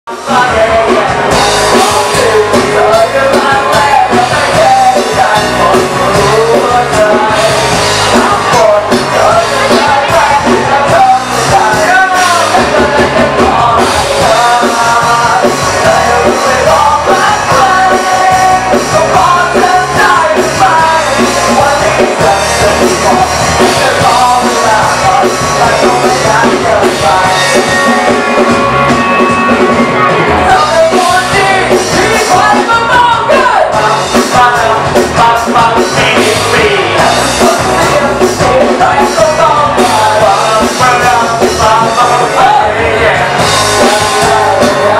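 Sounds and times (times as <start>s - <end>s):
drums: 0.0s - 44.9s
bass guitar: 0.1s - 44.9s
electric guitar: 0.1s - 44.9s
person singing: 0.1s - 44.9s.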